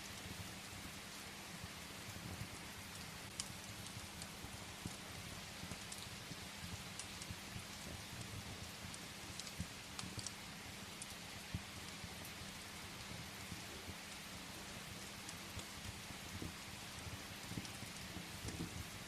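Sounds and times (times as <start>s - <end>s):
firewood crackling in fireplace: 0.0s - 19.0s
steady rain hiss: 0.0s - 19.0s.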